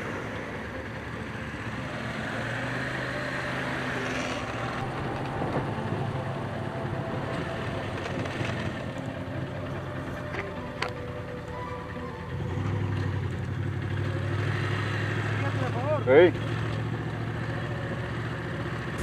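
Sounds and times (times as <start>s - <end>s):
motorcycle engine pulling away: 0.0s - 19.0s
road and traffic noise: 0.0s - 19.0s.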